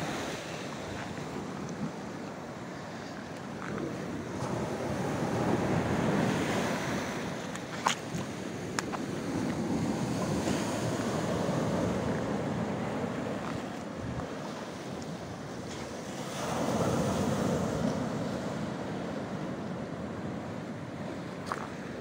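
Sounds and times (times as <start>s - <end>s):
surf on rocky shore: 0.0s - 22.0s
wind buffeting microphone: 0.0s - 22.0s.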